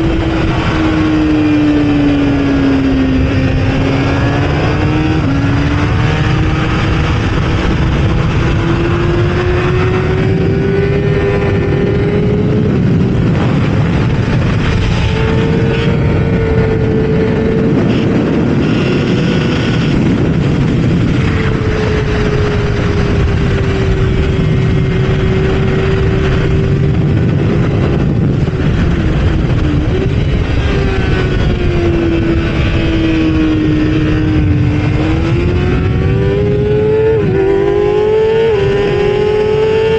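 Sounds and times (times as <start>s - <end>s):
motorcycle engine revving high: 0.0s - 39.9s
wind rush on microphone: 0.0s - 39.9s.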